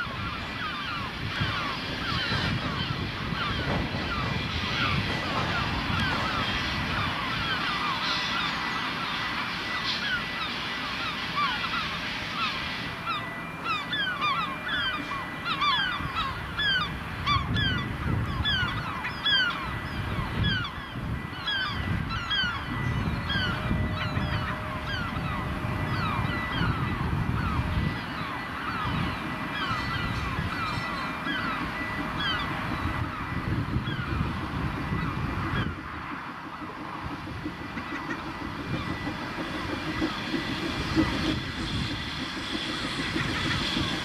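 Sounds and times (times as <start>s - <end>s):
birds calling: 0.0s - 44.0s
steam locomotive chuffing: 0.0s - 44.0s.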